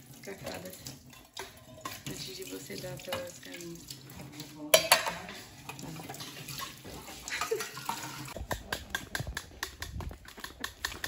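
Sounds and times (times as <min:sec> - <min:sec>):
metal pots clanking in sink: 0:00.0 - 0:11.0
water splashing on dishes: 0:00.0 - 0:11.0.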